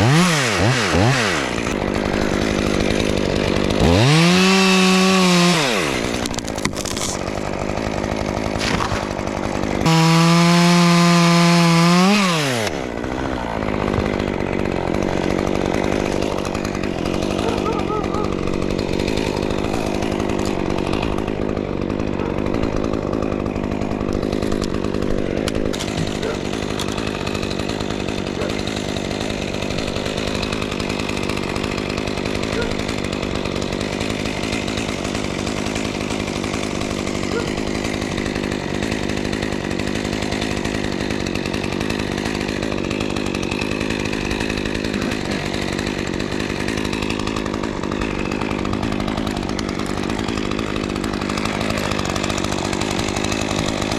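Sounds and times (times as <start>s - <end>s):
chainsaw running: 0.0s - 53.9s.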